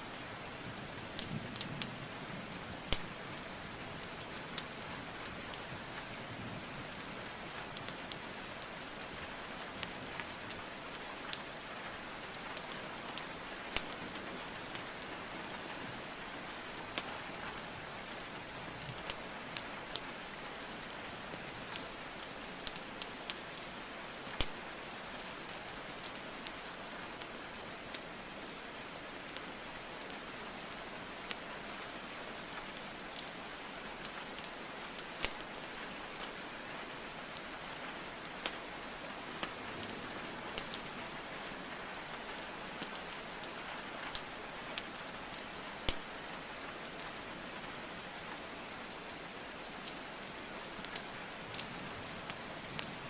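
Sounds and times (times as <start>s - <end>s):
steady rainfall: 0.0s - 53.0s
wood fire crackling: 0.2s - 1.9s, 2.5s - 53.0s.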